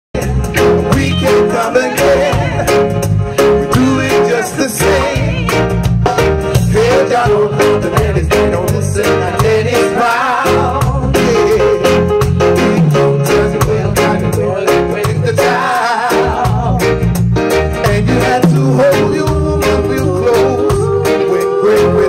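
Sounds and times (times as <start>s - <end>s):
bass: 0.1s - 22.0s
singers singing together: 0.2s - 12.1s, 12.7s - 17.0s, 17.8s - 22.0s
drums: 0.2s - 22.0s
electric guitar: 0.2s - 22.0s.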